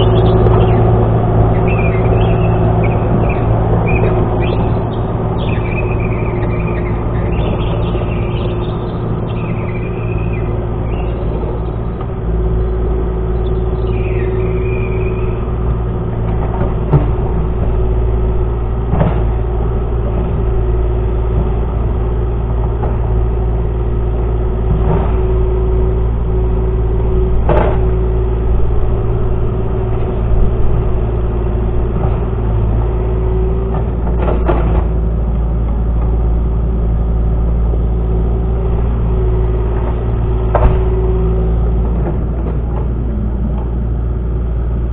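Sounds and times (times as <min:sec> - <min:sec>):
constant whine: 0:00.0 - 0:44.9
excavator diesel engine running: 0:00.0 - 0:44.9.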